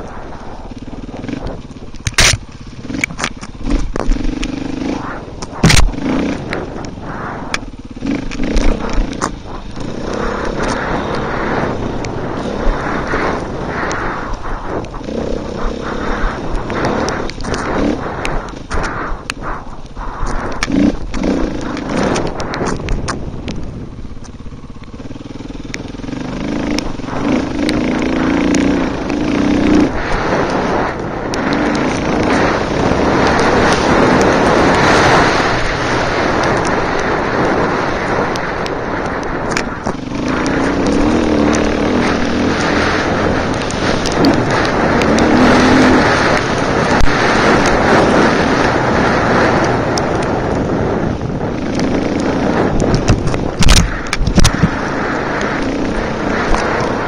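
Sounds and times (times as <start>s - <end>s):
dirt bike engine revving: 0.0s - 57.0s
wind rushing over microphone: 0.0s - 57.0s.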